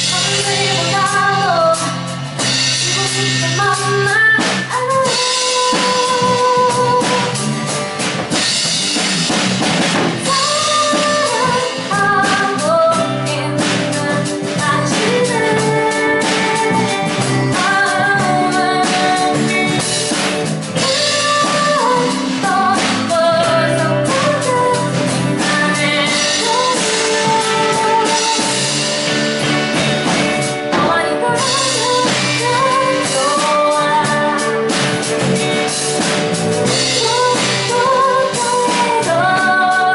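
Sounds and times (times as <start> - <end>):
woman singing: 0.0 - 7.9, 10.2 - 36.0, 36.6 - 39.9
acoustic guitar: 0.0 - 39.9
drum kit: 0.0 - 39.9
electric bass: 0.0 - 39.9
electric guitar: 0.0 - 39.9
keyboard: 0.0 - 39.9.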